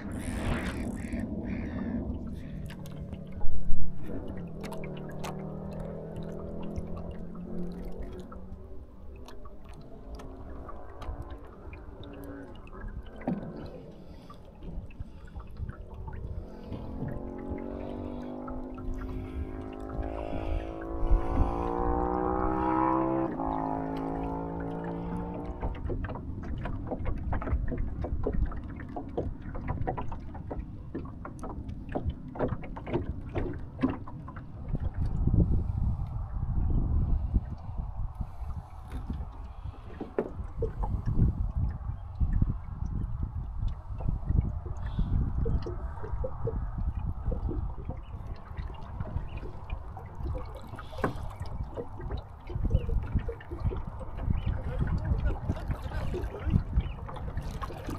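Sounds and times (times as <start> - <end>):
waves slapping against hull: 0.0 - 57.9
wind rumble on microphone: 0.0 - 57.9.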